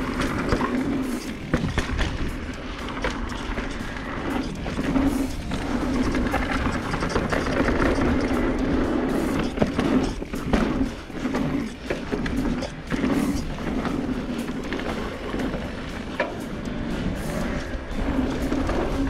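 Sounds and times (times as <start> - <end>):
bike knocking and rattling on bumps: 0.0 - 19.0
tyres rumbling on dirt trail: 0.0 - 19.0.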